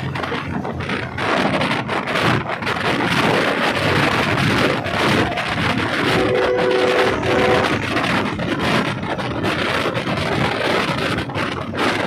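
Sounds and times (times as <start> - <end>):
clatter: 0.0 - 12.0
rushing wind: 0.0 - 12.0
train wheels rumbling on track: 0.0 - 12.0.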